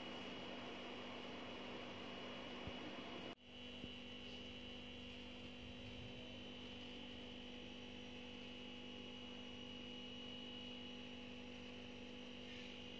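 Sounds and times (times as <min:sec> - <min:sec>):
faint electrical hum: 0:00.0 - 0:12.9.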